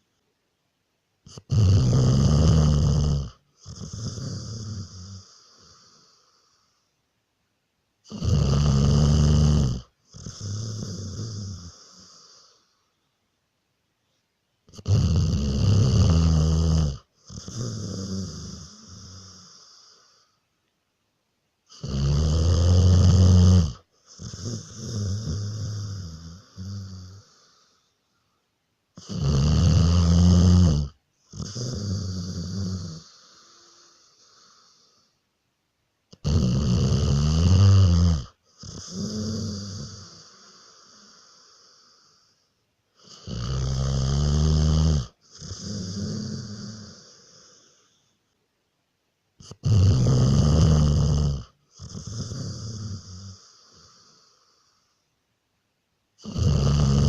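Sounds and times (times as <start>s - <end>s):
person snoring: 1.3s - 6.8s, 8.1s - 12.8s, 14.7s - 20.4s, 21.7s - 27.8s, 29.0s - 35.2s, 36.1s - 42.4s, 43.0s - 48.1s, 49.4s - 55.0s, 56.2s - 57.0s.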